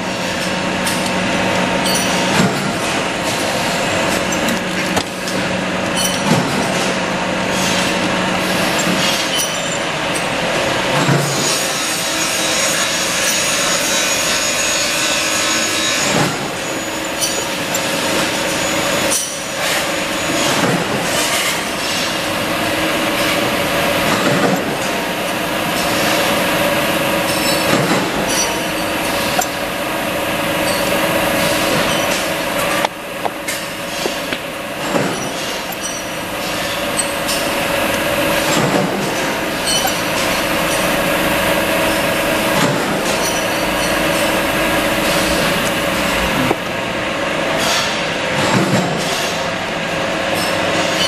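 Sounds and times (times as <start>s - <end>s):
drill press running: 0.0s - 51.0s.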